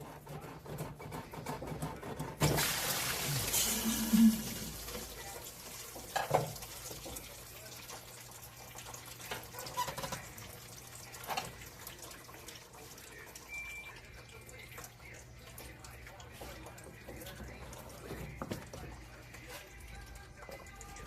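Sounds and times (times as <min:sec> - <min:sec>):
liquid trickling: 0:02.6 - 0:21.0.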